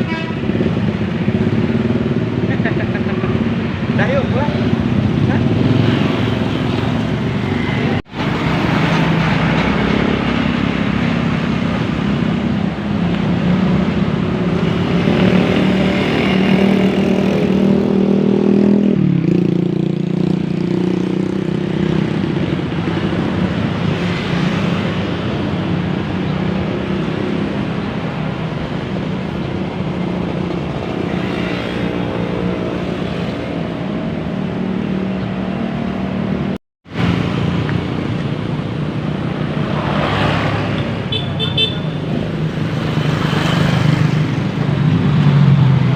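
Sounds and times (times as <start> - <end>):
road noise: 0.0 - 45.9.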